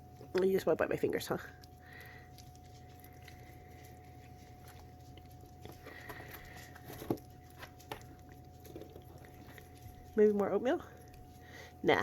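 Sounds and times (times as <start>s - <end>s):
dogs licking and chewing food: 0.0s - 12.0s
faint steady hum: 0.0s - 12.0s.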